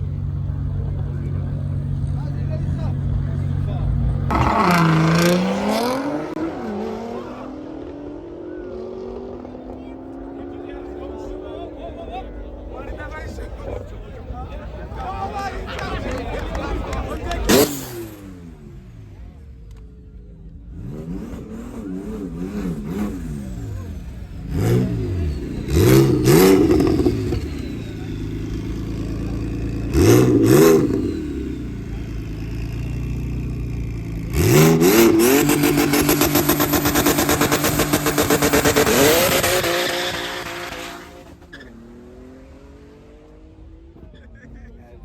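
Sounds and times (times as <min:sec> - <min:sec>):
car engine revving: 0:00.0 - 0:44.5.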